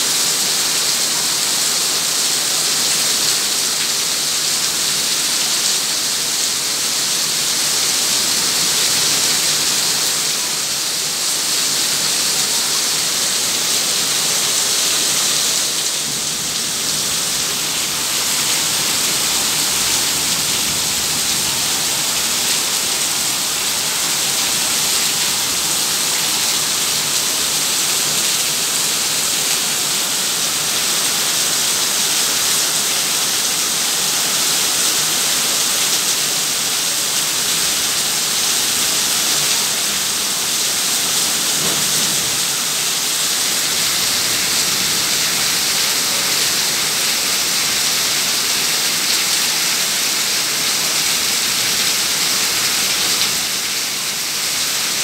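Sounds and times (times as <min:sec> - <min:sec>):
heavy rain on wet paving: 0:00.0 - 0:55.0.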